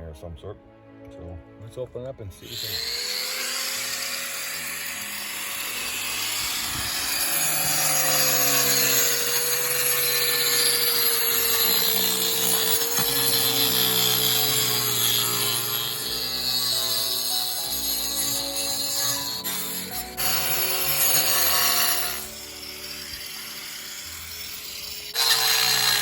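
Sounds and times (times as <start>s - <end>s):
power tool grinding stucco: 2.4s - 26.0s.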